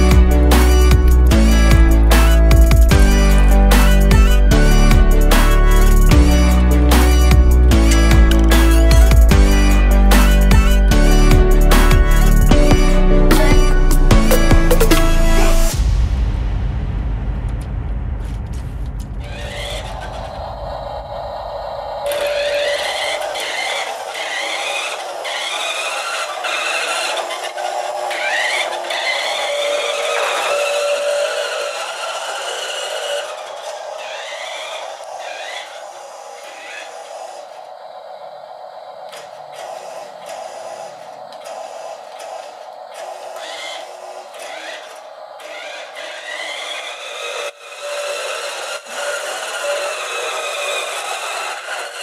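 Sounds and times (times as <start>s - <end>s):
toy truck electric motor whining: 0.0s - 15.8s, 19.2s - 20.4s, 21.8s - 52.0s.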